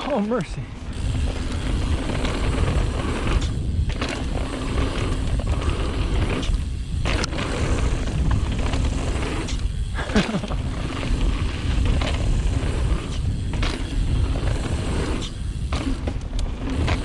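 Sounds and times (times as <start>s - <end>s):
bike tyre noise: 0.0s - 17.0s
wind rumbling on microphone: 0.6s - 17.0s
bike knocks and rattles: 0.9s - 17.0s.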